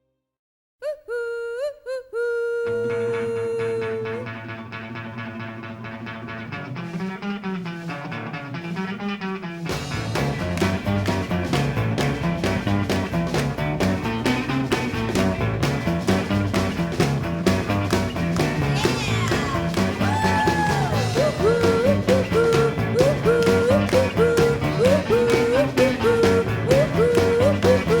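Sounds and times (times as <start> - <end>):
rock music: 4.2 - 28.0.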